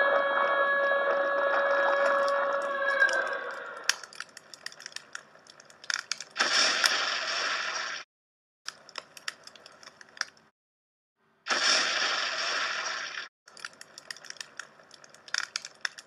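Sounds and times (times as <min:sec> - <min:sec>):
crackles and clicks: 0:00.4 - 0:08.0, 0:08.7 - 0:10.5, 0:11.5 - 0:16.0.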